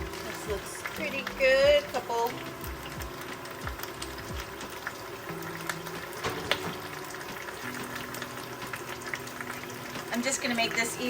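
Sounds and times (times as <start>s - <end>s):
spinach sizzling in a pan: 0.0s - 11.0s.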